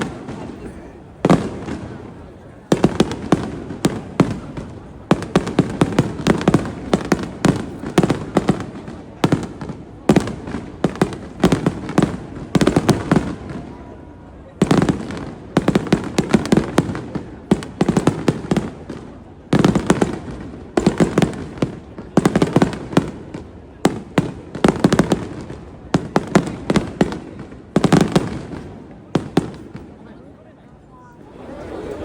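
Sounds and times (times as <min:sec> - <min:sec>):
fireworks bursting and crackling: 0:00.0 - 0:30.1.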